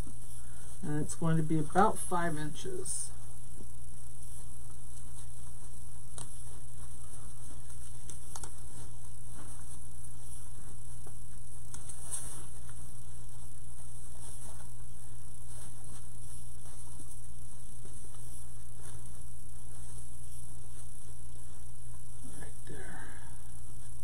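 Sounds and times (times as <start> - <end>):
electrical hum: 0.0 - 24.0
ribbon rustling and crinkling: 3.3 - 22.9.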